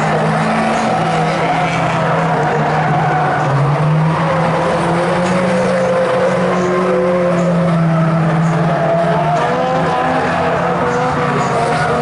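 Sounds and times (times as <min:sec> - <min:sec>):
race car engines racing: 0:00.0 - 0:12.0.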